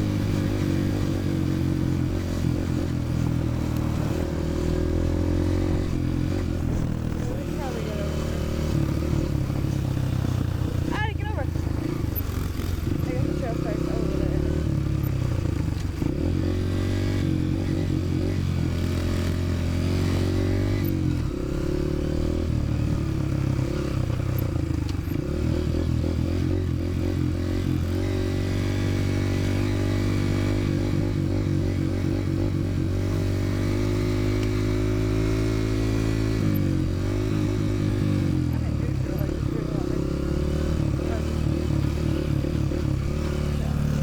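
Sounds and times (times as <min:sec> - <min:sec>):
dirt bike engine running: 0:00.0 - 0:44.0.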